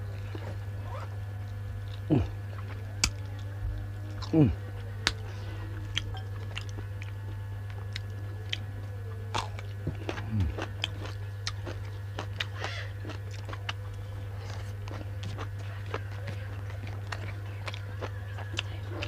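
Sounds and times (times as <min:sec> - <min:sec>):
person chewing and crunching: 0:00.0 - 0:03.5, 0:04.1 - 0:19.0
steady low hum: 0:00.0 - 0:19.0.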